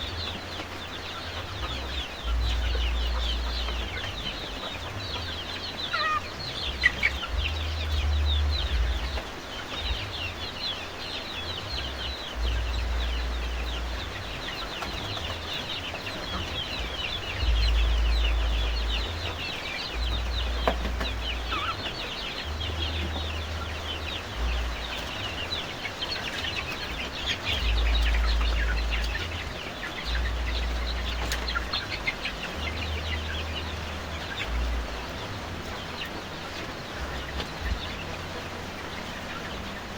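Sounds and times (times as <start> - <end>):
chickens peeping and clucking: 0.0 - 39.9
low rumbles: 0.0 - 39.9.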